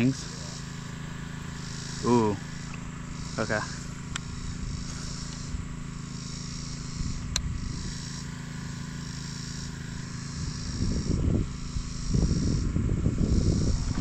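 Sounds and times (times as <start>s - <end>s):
insects buzzing: 0.0s - 14.0s
steady low hum: 0.0s - 14.0s.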